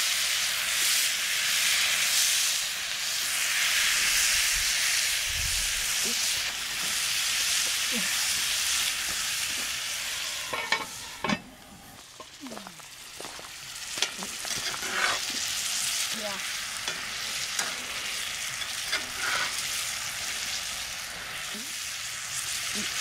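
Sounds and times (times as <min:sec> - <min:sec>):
vegetables and meat sizzling in skillet: 0:00.0 - 0:23.0.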